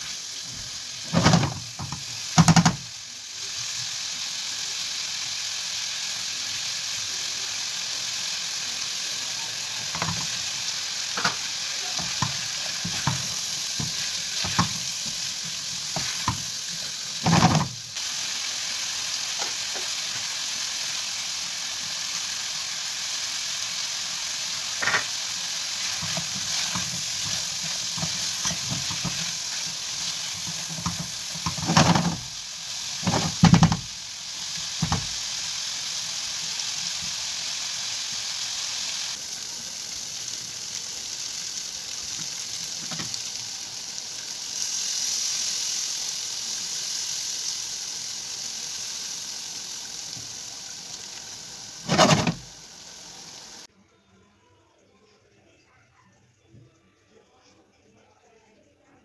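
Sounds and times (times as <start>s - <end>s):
food sizzling in oil: 0.0s - 53.7s.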